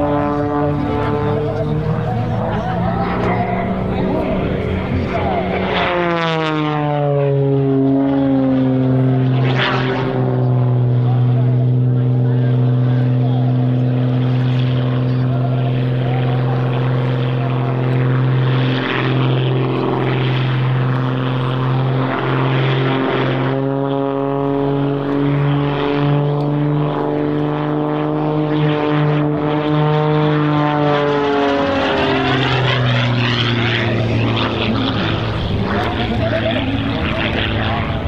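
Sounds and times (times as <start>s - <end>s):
propeller plane droning: 0.0s - 38.0s.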